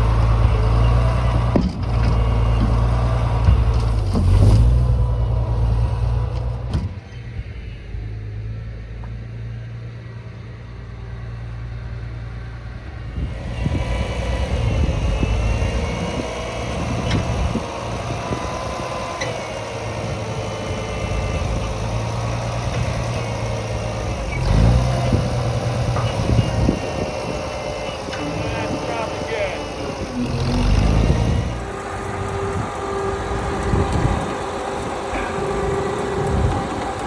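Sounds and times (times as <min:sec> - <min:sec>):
mechanical clatter and whine: 0:00.0 - 0:09.3, 0:12.7 - 0:37.0
tractor engine running: 0:00.0 - 0:37.0.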